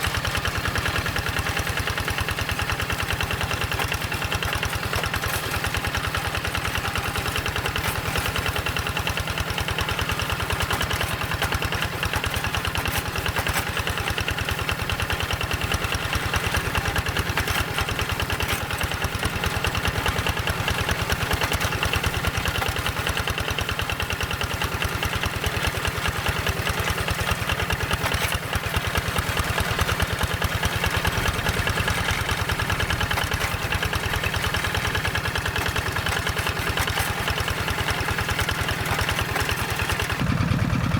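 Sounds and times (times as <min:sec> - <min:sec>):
diesel tractor engine chugging: 0:00.0 - 0:40.9.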